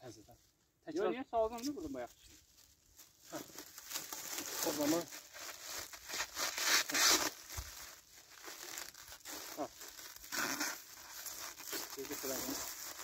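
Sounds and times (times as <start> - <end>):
plastic film crinkling: 1.6 - 13.0.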